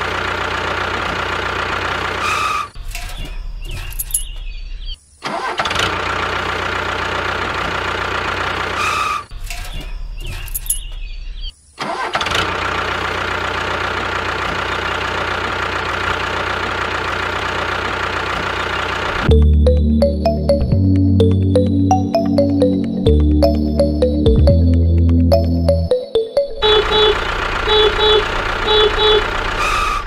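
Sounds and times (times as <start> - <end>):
tractor engine starting and running: 0.0 - 4.6, 5.2 - 11.1, 11.8 - 30.0.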